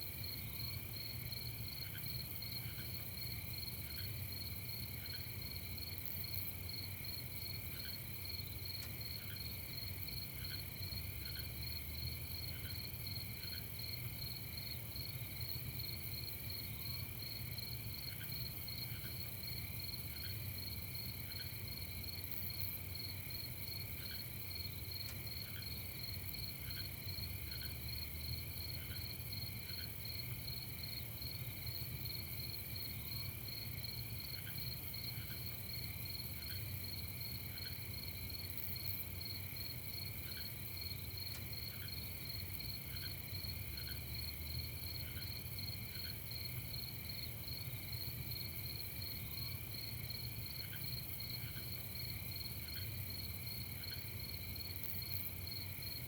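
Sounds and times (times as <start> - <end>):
crickets chirping in trills: 0.0 - 56.0.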